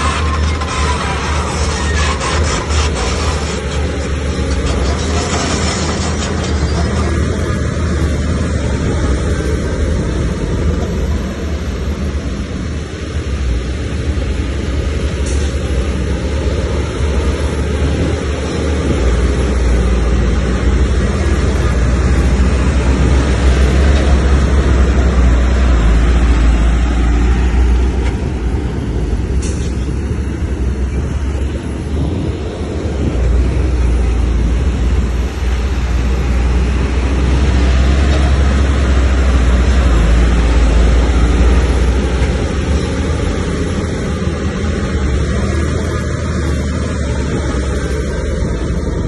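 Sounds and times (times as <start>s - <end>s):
bulldozer diesel engine droning: 0.0s - 49.0s.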